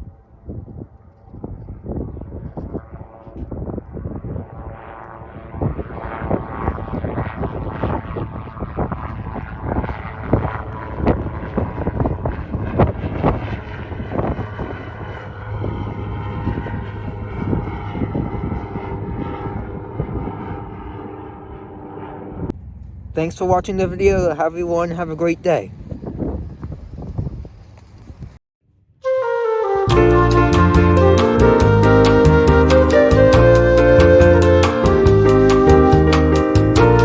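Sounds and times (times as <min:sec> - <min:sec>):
propeller airplane engine: 0:00.0 - 0:28.2, 0:29.6 - 0:37.0.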